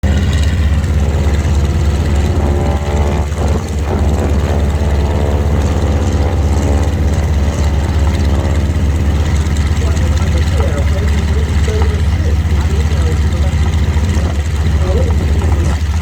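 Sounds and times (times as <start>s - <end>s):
propeller aircraft engine running: 0.0s - 16.0s.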